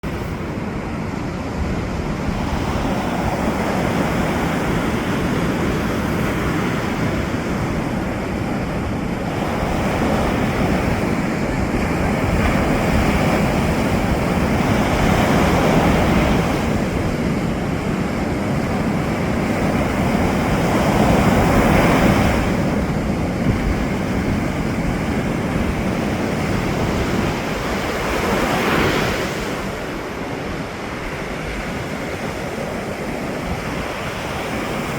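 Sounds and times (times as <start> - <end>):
ocean waves breaking: 0.0 - 34.9.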